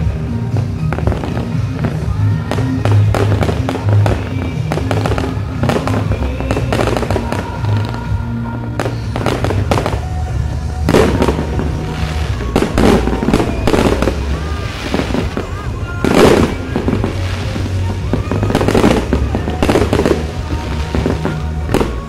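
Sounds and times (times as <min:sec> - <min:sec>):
fireworks bangs and crackling: 0:00.0 - 0:22.0
music: 0:00.0 - 0:22.0.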